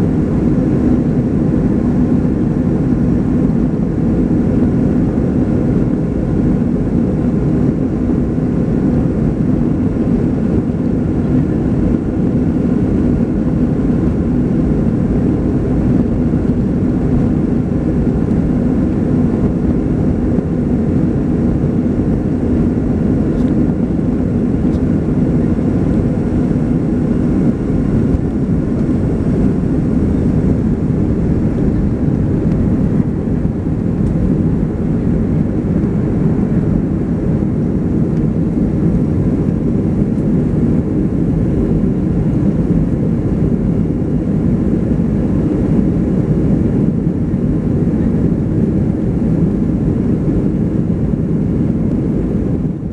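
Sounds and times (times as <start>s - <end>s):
jet engine roar in cabin: 0.0s - 52.9s.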